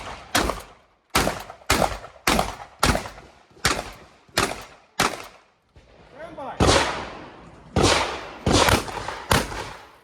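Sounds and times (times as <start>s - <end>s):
shotgun shots with echo: 0.0s - 5.4s, 6.6s - 10.0s.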